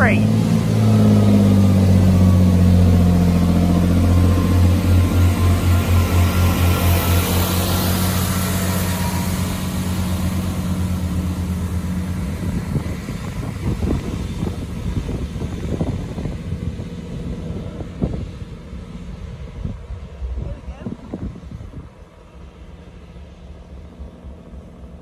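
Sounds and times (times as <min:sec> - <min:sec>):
train diesel engine droning: 0:00.0 - 0:25.0.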